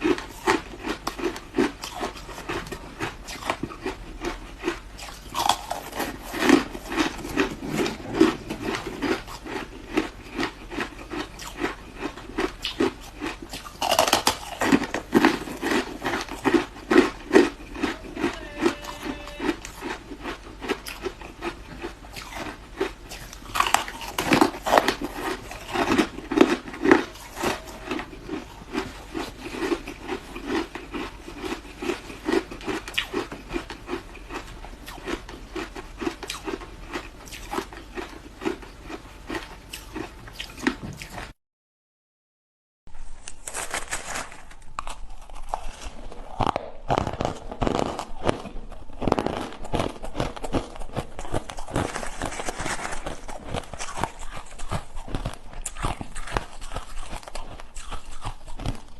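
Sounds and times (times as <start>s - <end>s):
ice being chewed: 0.0s - 41.4s, 43.6s - 58.9s.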